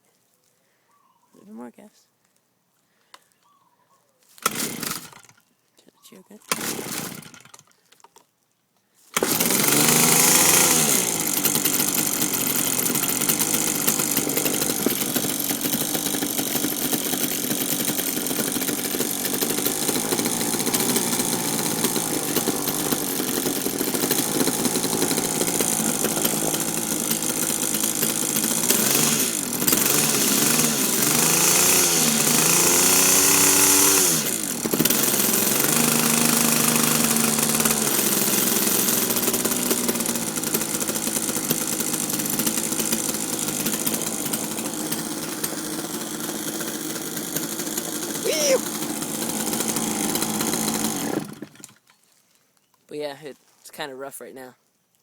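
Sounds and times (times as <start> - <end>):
weed whacker engine revving: 4.4 - 5.4, 6.4 - 7.7, 9.1 - 51.8.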